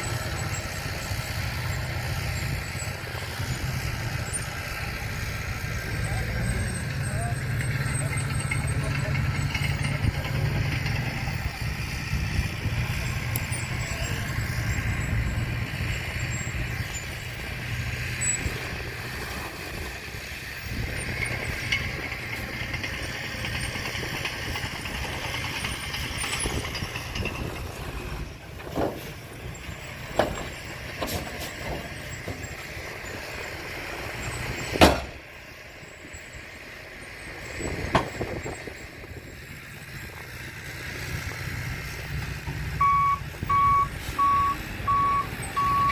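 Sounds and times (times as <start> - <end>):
heavy vehicle engine rumbling: 0.0 - 45.9.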